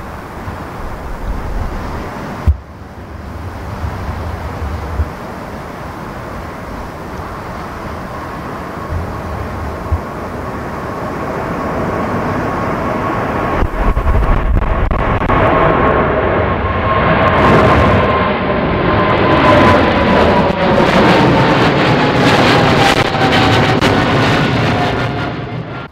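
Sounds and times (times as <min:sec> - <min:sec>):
high engine whine: 0:00.0 - 0:25.9
jet engines rumbling: 0:00.0 - 0:25.9.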